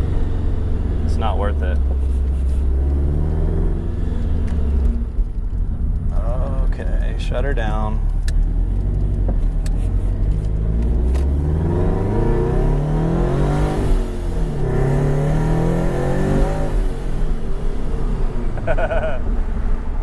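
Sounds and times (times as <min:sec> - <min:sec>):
car engine accelerating hard: 0:00.0 - 0:19.9.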